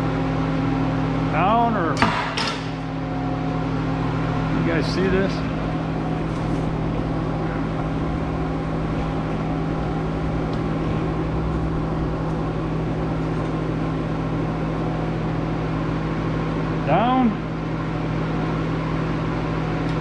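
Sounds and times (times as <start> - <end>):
machine hum with low tone: 0.0 - 20.0.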